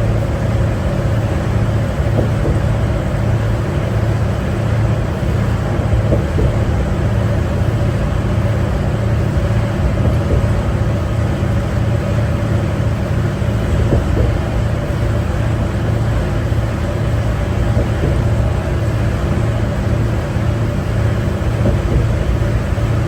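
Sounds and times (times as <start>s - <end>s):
bus engine droning: 0.0s - 23.0s.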